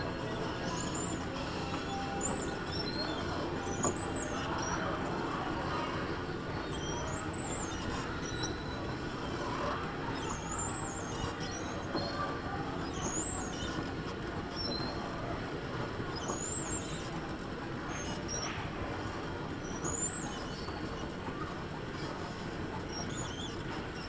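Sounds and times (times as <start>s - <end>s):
go-kart rumble on track: 0.0s - 24.0s
tyre squeals: 0.0s - 24.0s.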